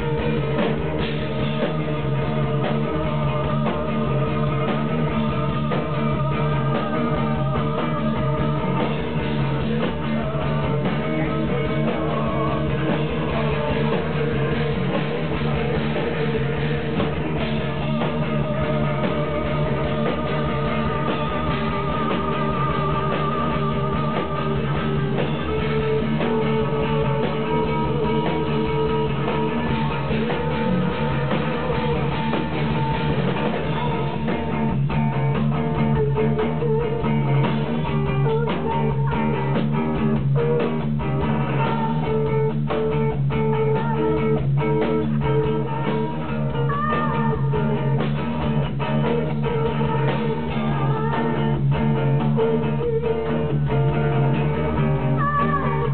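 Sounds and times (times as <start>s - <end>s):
bass guitar: 0.0s - 55.9s
droning electric guitars: 0.0s - 55.9s
drum kit: 0.0s - 55.9s.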